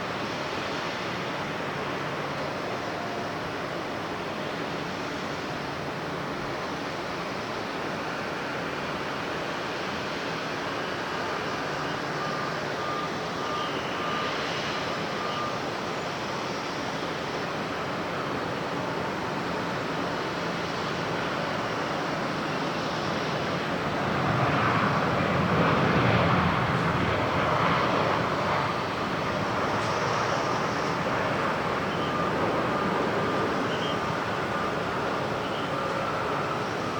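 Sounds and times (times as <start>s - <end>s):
jet airliner engine passing: 0.0s - 36.9s.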